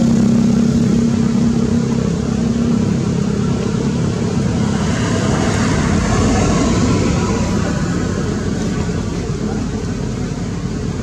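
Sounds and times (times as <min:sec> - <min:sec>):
low hum: 0:00.0 - 0:11.0
vehicle engine running: 0:00.0 - 0:11.0.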